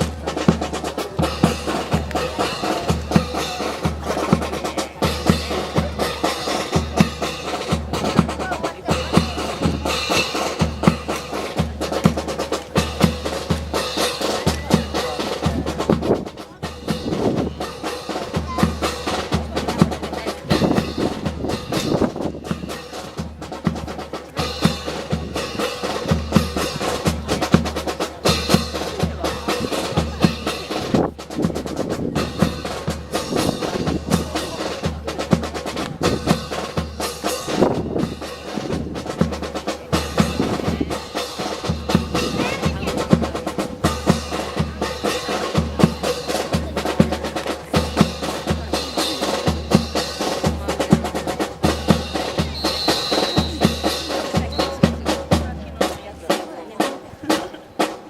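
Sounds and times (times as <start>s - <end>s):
marching snare and bass drums: 0.0s - 58.0s.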